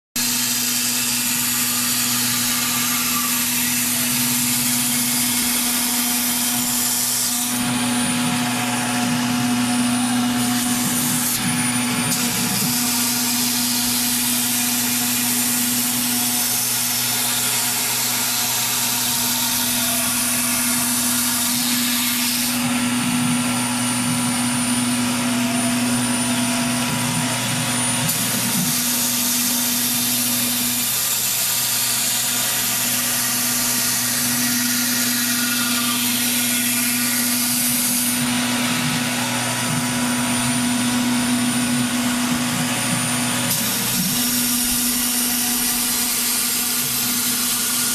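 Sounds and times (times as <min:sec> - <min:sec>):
cnc router cutting: 0:00.2 - 0:47.9.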